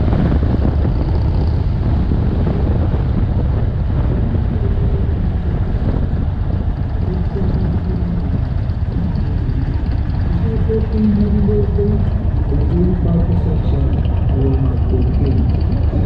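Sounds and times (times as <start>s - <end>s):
motorcycle engine drone: 0.0s - 16.0s
wind rushing over microphone: 0.0s - 16.0s.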